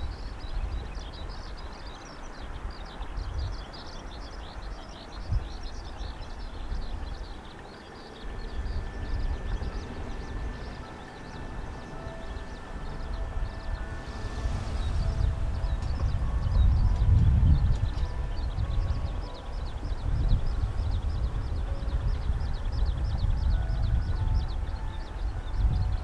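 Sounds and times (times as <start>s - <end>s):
dense high chirping: 0.0s - 26.0s
distant train rumble: 0.0s - 26.0s
thin steady whine: 0.0s - 26.0s.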